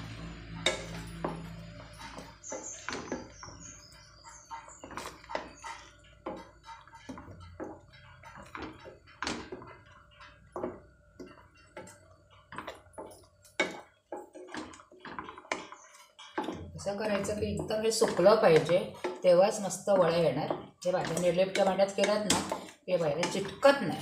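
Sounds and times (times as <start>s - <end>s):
spatula scraping a pan: 0.0s - 24.0s.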